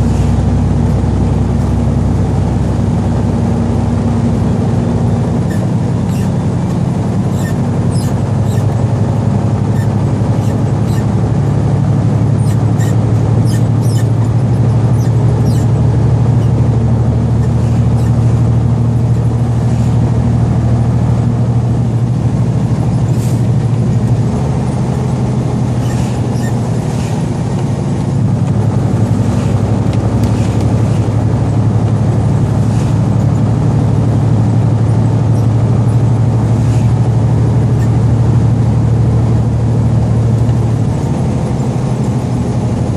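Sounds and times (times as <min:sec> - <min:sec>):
road noise: 0:00.0 - 0:42.9
truck engine humming: 0:00.0 - 0:42.9.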